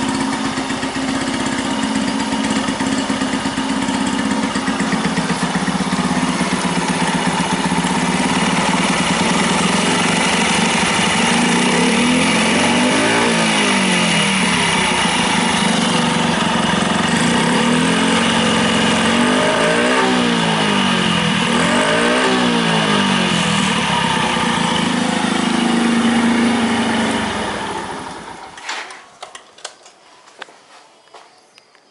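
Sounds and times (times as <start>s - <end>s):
motorcycle engine idling and revving: 0.0s - 29.5s.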